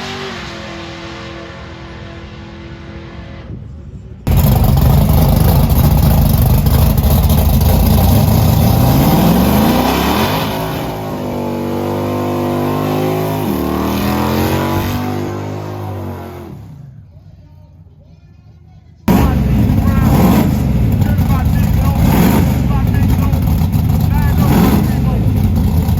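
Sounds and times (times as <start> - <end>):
car engine revving: 0.0 - 3.7, 4.3 - 17.0, 19.1 - 25.9.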